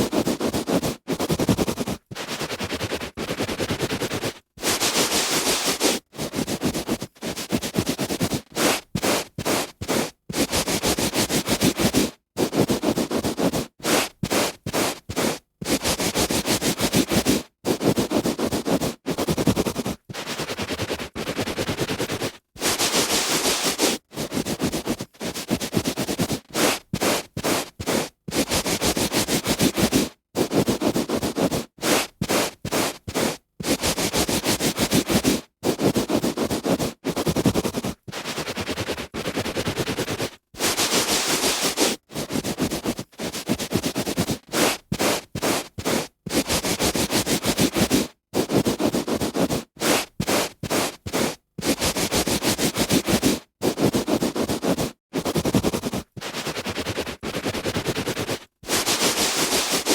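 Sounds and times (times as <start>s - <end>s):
hand rubbing on carpet: 0.1s - 59.9s.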